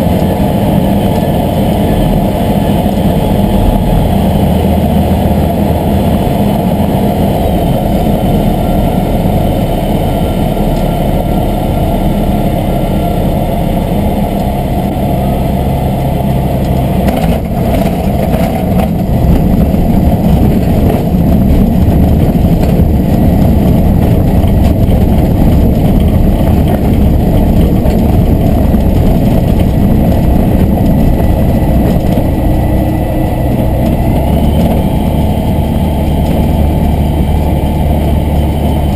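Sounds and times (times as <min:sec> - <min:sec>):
aircraft engine and propeller: 0:00.0 - 0:38.9
wind rush: 0:00.0 - 0:38.9.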